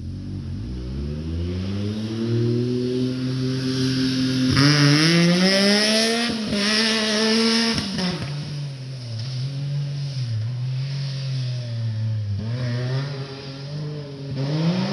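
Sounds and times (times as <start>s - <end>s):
engine accelerating hard: 0.0s - 14.9s.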